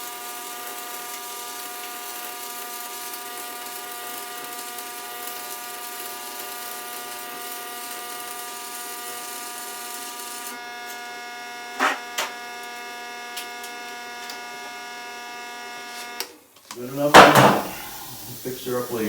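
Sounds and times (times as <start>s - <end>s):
welding hiss: 0.0s - 14.6s, 16.8s - 19.0s
electric welder buzzing: 0.0s - 19.0s.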